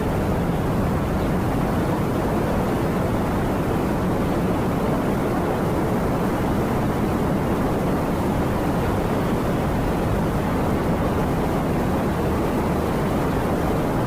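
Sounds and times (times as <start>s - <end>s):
strong storm wind: 0.0s - 14.0s.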